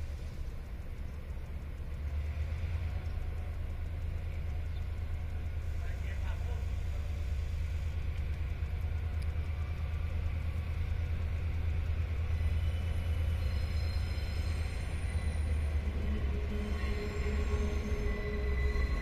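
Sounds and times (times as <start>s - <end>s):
locomotive low rumble: 0.0s - 19.0s.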